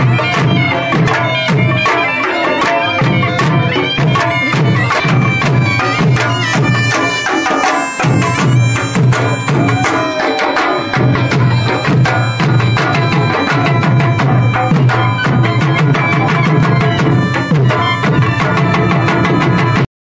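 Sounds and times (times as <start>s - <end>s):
barrel drums beaten with sticks: 0.0s - 19.8s
high held melody: 0.0s - 19.8s.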